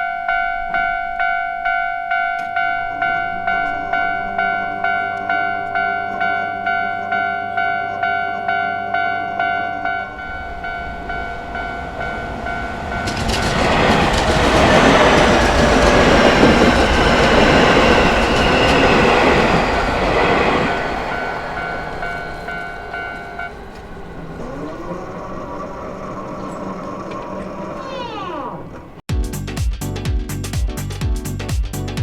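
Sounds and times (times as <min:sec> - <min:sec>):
electric train passing: 0:00.0 - 0:29.0
level crossing warning bell: 0:00.0 - 0:29.0.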